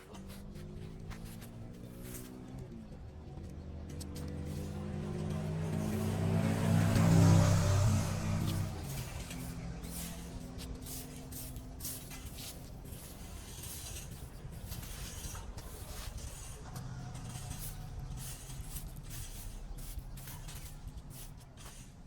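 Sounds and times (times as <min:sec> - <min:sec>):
irregular scraping and rustling: 0:00.0 - 0:22.0.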